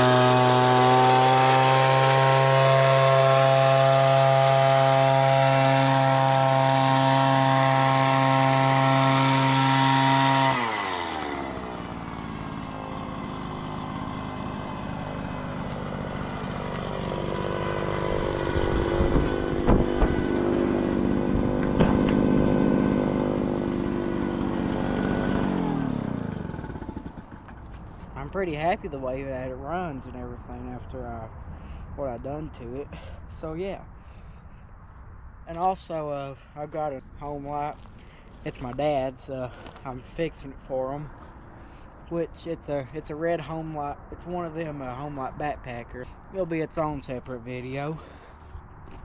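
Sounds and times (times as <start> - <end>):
leaf blower engine running: 0.0 - 30.6, 32.8 - 49.0.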